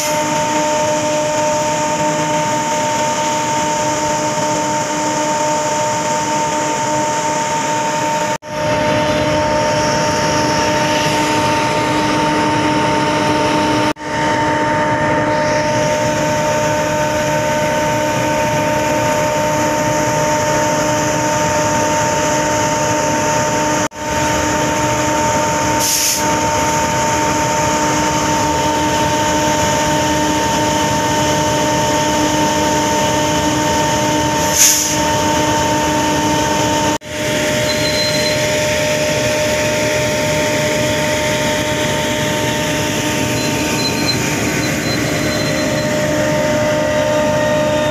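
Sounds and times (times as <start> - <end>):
rushing wind: 0.0 - 47.9
train engine drone: 0.0 - 47.9
train rolling noise: 0.0 - 47.9.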